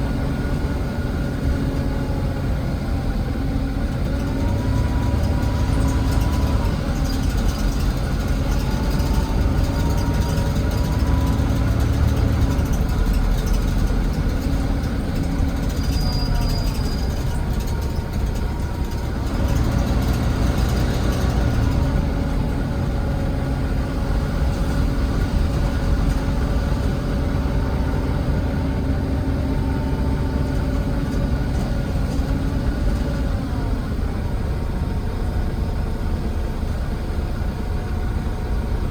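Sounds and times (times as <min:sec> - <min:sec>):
bus diesel engine running: 0:00.0 - 0:38.9
engine whine: 0:00.0 - 0:38.9.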